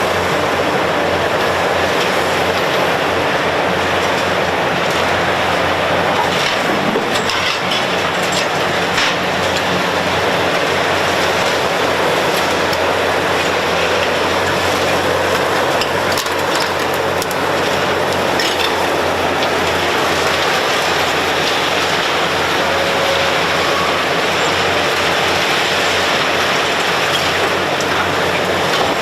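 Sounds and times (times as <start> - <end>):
heavy machinery running: 0.0 - 29.0.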